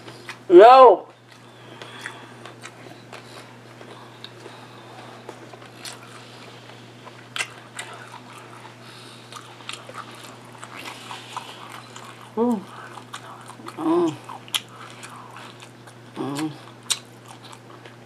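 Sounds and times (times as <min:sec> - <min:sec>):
steady low hum: 0:00.0 - 0:18.0
person chewing food: 0:01.1 - 0:18.0.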